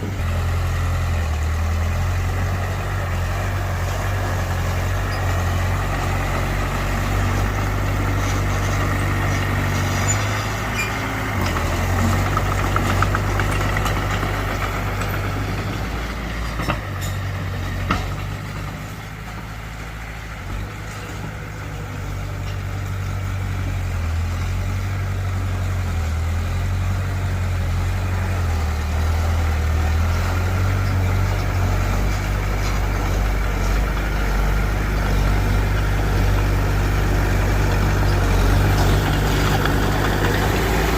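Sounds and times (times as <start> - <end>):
heavy diesel machinery engine hum: 0.0 - 40.9.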